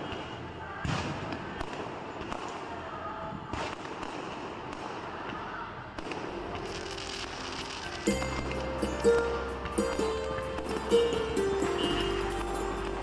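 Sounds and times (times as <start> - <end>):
fireworks bangs: 0.0 - 13.0
small fireworks pops: 0.0 - 13.0.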